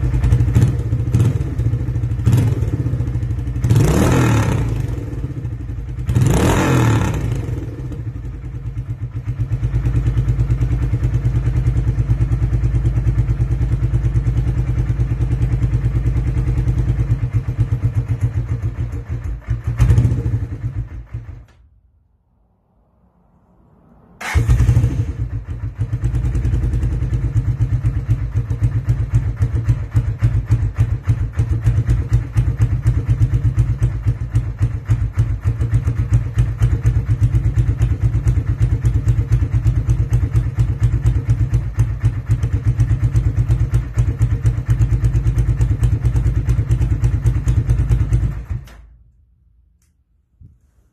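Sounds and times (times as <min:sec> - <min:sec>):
motorcycle engine starting and idling: 0:00.0 - 0:21.8, 0:24.2 - 0:50.7.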